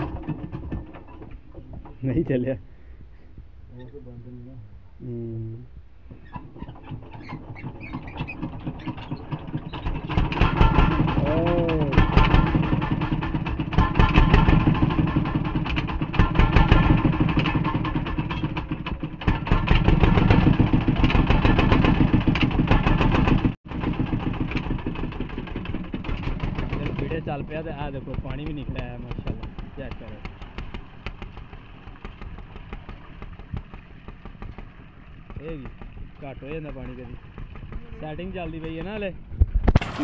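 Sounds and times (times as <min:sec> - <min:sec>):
diesel engine knocking: 0:06.8 - 0:40.0.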